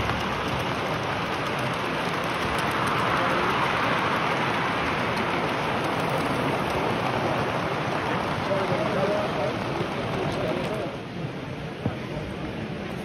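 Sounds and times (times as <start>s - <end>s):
crowd chatter: 0.0s - 13.0s.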